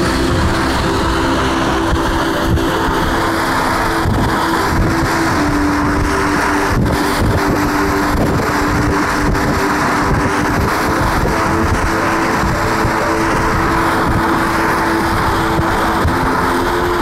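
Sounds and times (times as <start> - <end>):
car engine hum: 0.0 - 17.0
tyre and wind noise: 0.0 - 17.0.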